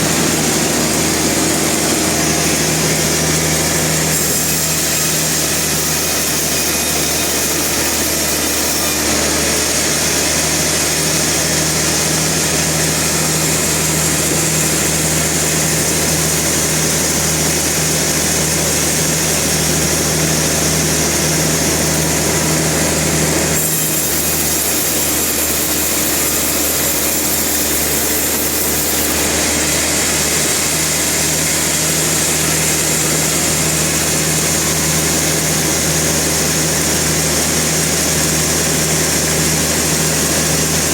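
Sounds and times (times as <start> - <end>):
harsh sawmill machinery noise: 0.0 - 40.9.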